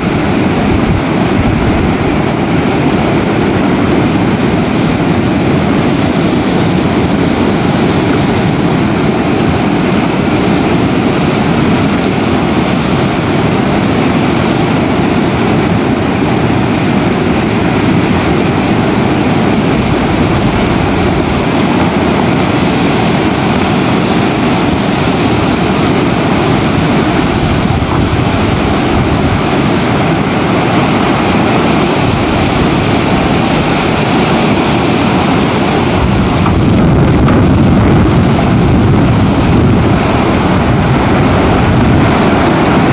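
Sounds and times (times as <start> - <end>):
strong wind roaring on microphone: 0.0 - 42.9.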